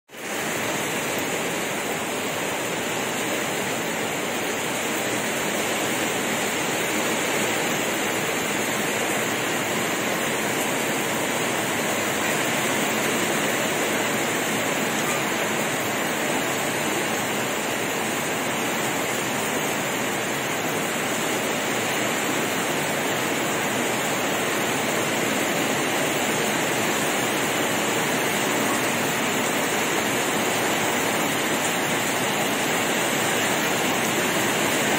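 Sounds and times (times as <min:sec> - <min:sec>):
heavy rain on roofs and trees: 0:00.1 - 0:34.9.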